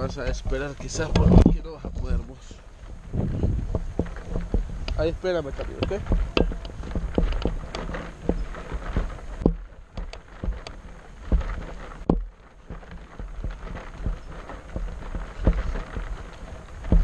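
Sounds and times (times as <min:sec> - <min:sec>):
camera handling rumble: 0:00.0 - 0:17.0
footsteps on rocky dirt trail: 0:00.0 - 0:17.0.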